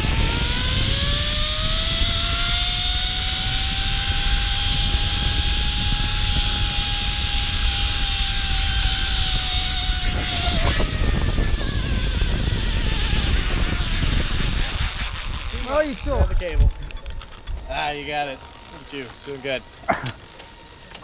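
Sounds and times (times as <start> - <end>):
wind on microphone: 0.0 - 17.9
zip line trolley whine: 0.0 - 21.0.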